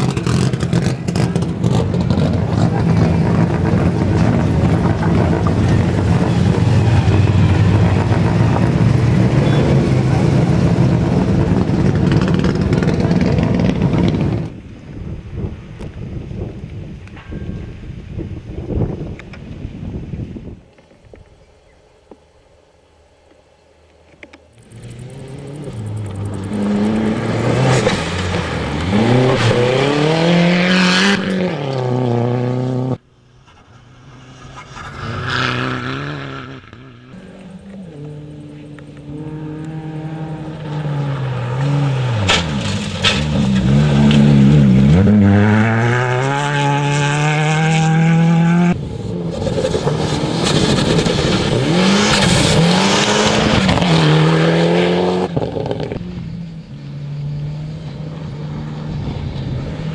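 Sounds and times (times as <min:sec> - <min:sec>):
rally cars revving past: 0:00.0 - 0:14.6, 0:24.6 - 0:33.0, 0:33.6 - 0:59.9.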